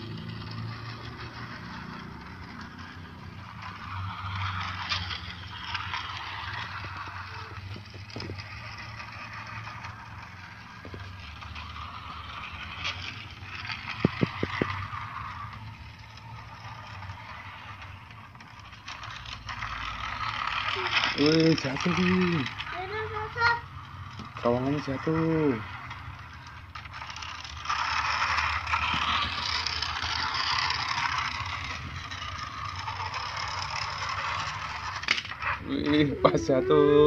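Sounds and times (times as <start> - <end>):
toy train whirring: 0.0 - 37.0.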